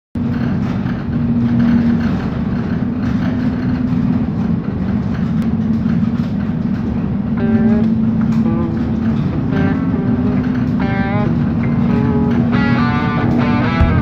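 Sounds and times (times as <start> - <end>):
gondola cabin rumble: 0.2 - 14.0
low hum: 0.2 - 14.0.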